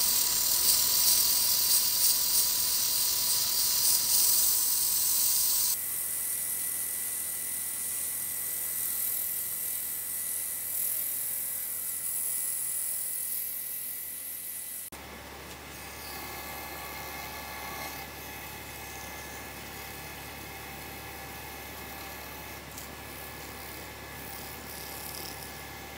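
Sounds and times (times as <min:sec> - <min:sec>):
wood lathe running: 0:00.0 - 0:14.6, 0:15.8 - 0:25.9.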